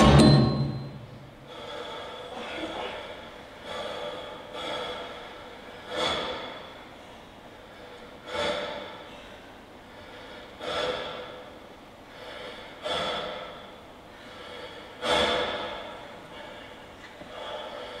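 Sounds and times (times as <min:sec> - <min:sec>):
heavy breathing: 0:01.3 - 0:18.0.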